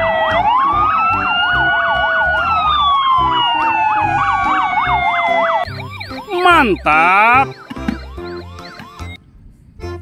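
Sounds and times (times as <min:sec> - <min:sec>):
police siren wail: 0:00.0 - 0:09.2
police siren yelp: 0:00.0 - 0:09.2.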